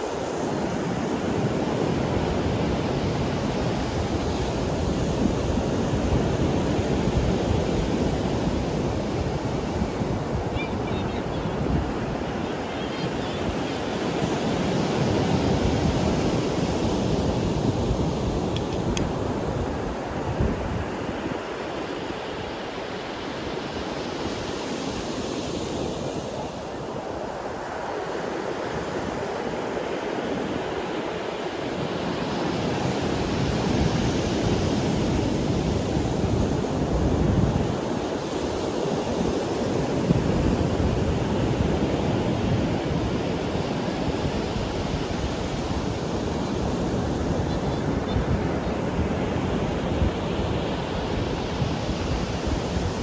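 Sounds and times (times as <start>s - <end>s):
sea waves breaking on beach: 0.0s - 53.0s
wind on microphone: 0.0s - 53.0s.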